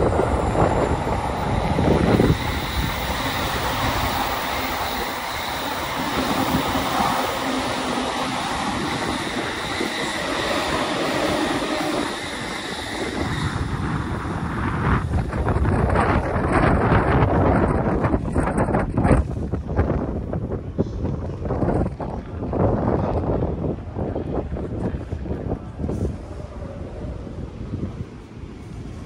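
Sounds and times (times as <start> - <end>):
train wheels rushing on rails: 0.0 - 29.0
wind buffeting microphone: 0.0 - 29.0.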